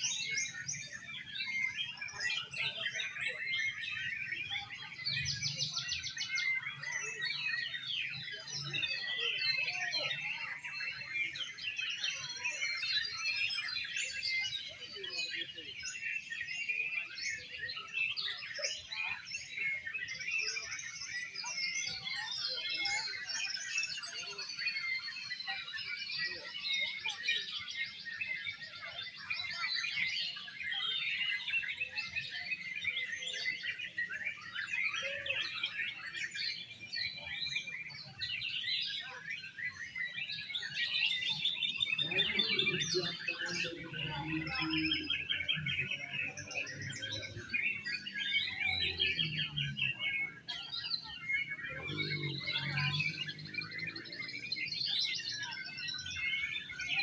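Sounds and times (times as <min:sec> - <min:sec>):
magpie-robins singing: 0:00.0 - 0:57.0.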